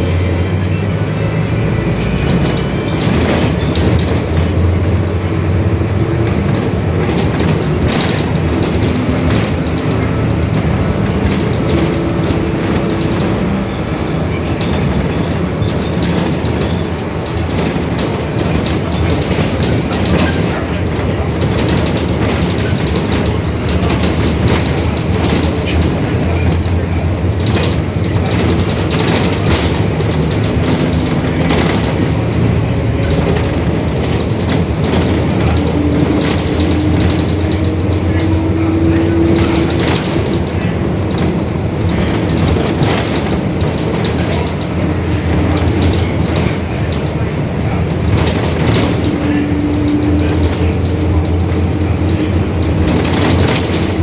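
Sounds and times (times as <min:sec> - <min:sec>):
bus engine running: 0:00.0 - 0:54.0
short rattles and knocks: 0:02.0 - 0:54.0.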